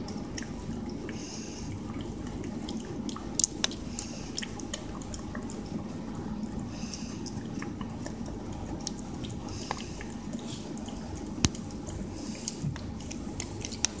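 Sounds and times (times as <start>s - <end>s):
cat licking and lapping: 0.0s - 14.0s.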